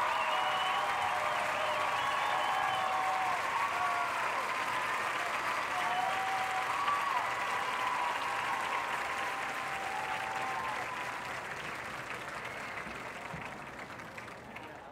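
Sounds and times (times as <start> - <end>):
crowd applauding and cheering: 0.0 - 14.9
long drawn-out cheers: 0.0 - 14.9.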